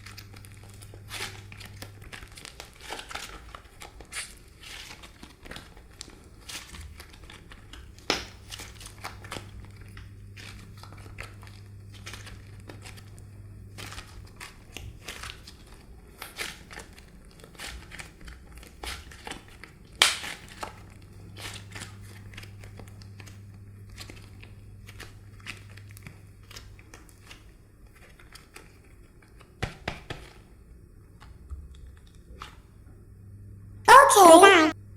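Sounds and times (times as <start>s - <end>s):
slime crinkling and crackling: 0.0s - 29.5s.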